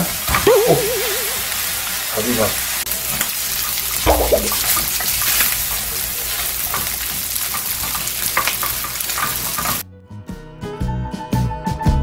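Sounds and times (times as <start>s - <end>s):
rice sizzling in a frying pan: 0.0s - 9.8s.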